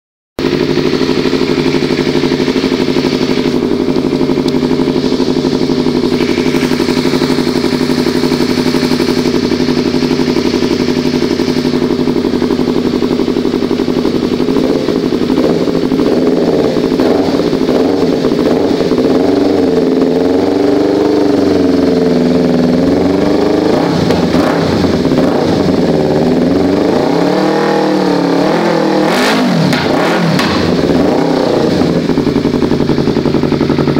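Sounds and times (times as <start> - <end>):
motorcycle engine idling and revving: 0.4 - 33.9.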